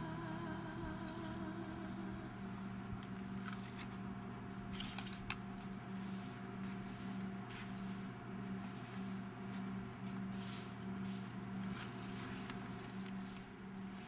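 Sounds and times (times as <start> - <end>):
low room tone hum: 0.0 - 14.0
paper pad leafed through: 2.6 - 14.0.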